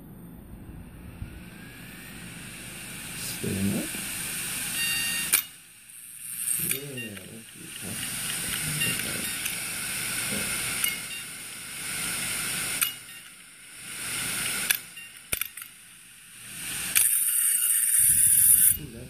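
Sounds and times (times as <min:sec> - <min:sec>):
hard disk arm rushing noise: 0:00.0 - 0:19.0.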